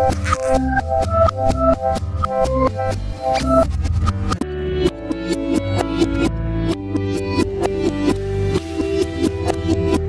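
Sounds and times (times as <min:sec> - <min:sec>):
bright notes over a beat: 0:00.0 - 0:10.0.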